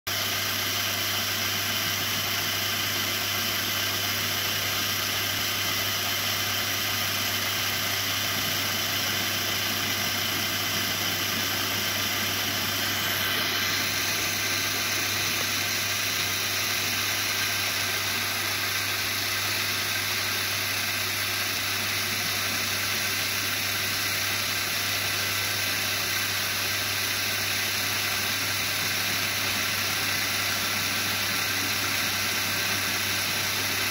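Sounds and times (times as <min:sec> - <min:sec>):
electric motor and gearing hum: 0:00.1 - 0:33.9.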